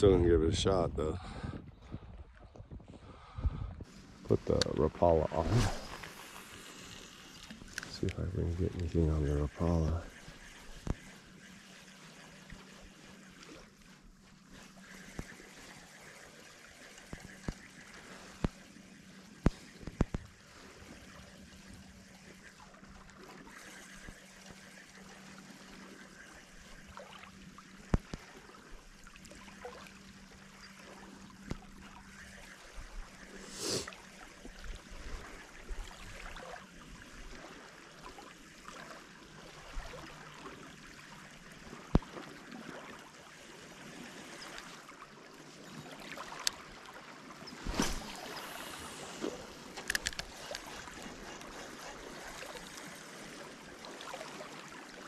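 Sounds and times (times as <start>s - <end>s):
water lapping and trickling: 0.0s - 55.0s
water swish: 3.8s - 55.0s.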